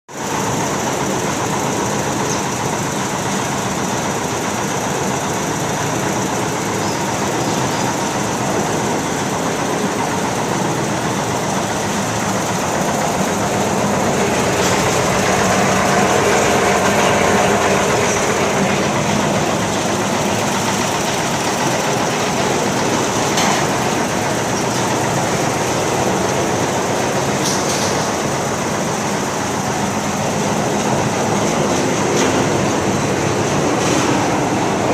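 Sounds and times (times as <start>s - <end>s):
tractor engine and mixer drum: 0.1s - 34.9s.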